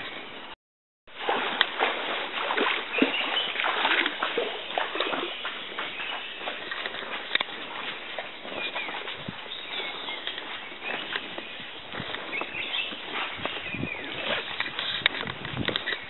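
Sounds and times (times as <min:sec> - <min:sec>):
elephant moving through vegetation: 0:01.3 - 0:16.0.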